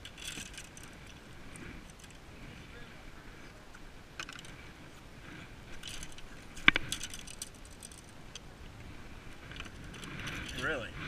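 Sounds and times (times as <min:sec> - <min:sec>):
fishing gear clicking and rattling: 0:00.0 - 0:02.7, 0:03.7 - 0:11.0.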